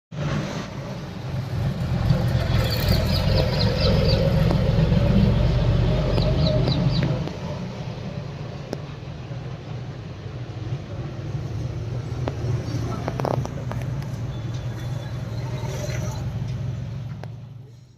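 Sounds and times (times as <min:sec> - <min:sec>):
tractor engine running: 0:00.7 - 0:17.6.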